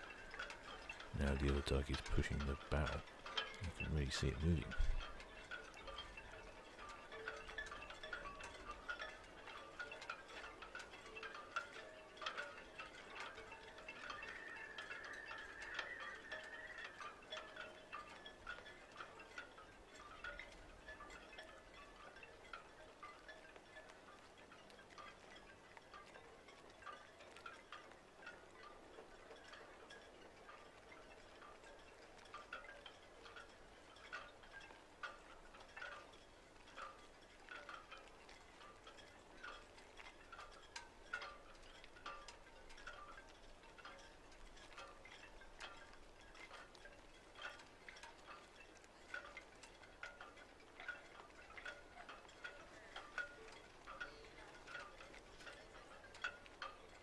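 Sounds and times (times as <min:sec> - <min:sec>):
faint tinkling chimes: 0:00.0 - 0:57.0.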